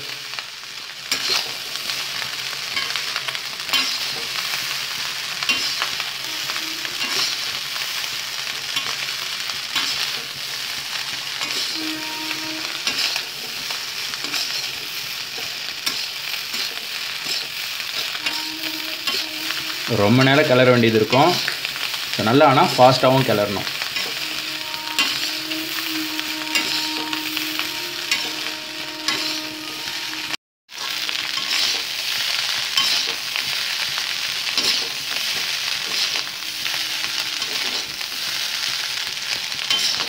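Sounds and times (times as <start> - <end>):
rice sizzling in a wok: 0.0 - 40.0
metal spatula scraping a pan: 3.7 - 4.7, 5.4 - 10.2, 11.4 - 15.0, 15.8 - 33.9, 34.5 - 40.0.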